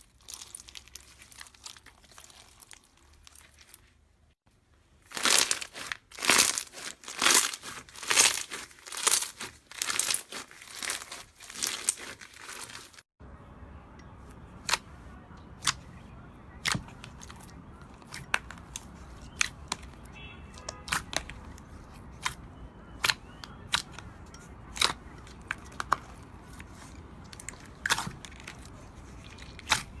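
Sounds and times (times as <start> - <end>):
slime crackling and crinkling: 0.0 - 4.4, 5.0 - 13.2, 14.6 - 30.0.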